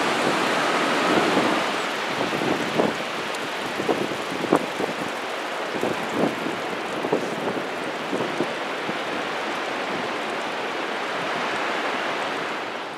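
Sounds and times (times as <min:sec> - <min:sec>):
ocean surf on beach: 0:00.0 - 0:12.9.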